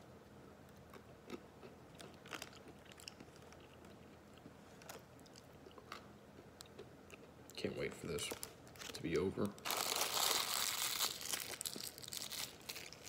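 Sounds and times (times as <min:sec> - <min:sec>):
crunching dry noodles: 0:00.9 - 0:13.0.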